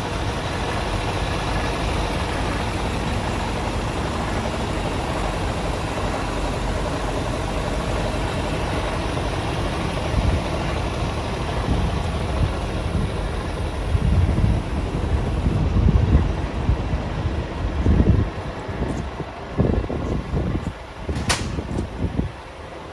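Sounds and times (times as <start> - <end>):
truck diesel engine idling: 0.0 - 19.8.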